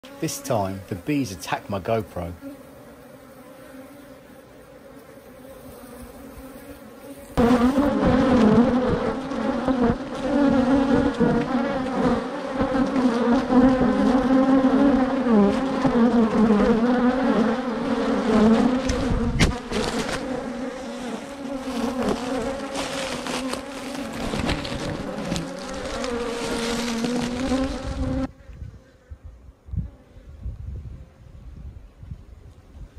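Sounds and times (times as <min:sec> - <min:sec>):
honeybees buzzing: 0:00.0 - 0:30.4.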